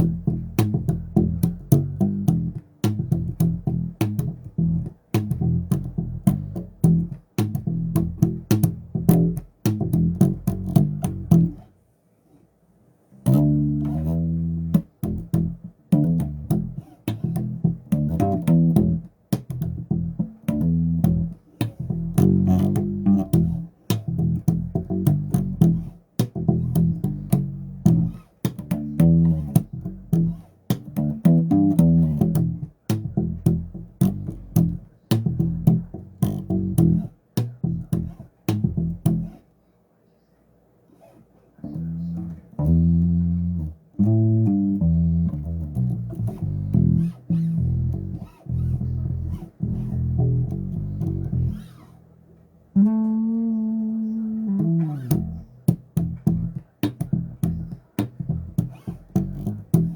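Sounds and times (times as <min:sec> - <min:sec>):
bass guitar plucked notes: 0:00.0 - 0:11.7, 0:13.2 - 0:39.4, 0:41.6 - 0:59.9.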